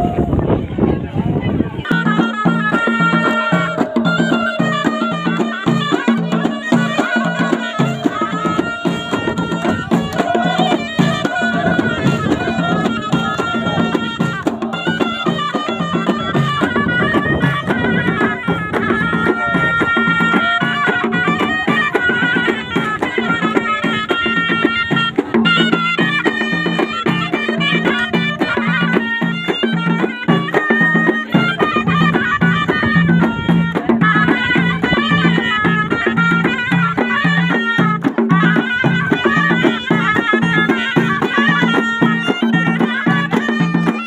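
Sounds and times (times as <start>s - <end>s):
double-reed shawm playing folk melody: 0.2s - 44.0s
steady drum beat: 1.9s - 44.0s.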